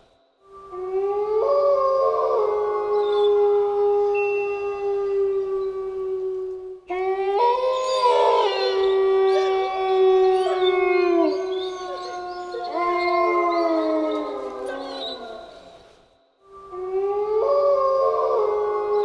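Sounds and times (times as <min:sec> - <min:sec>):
wolves howling in chorus: 0:00.7 - 0:15.9, 0:16.6 - 0:19.0.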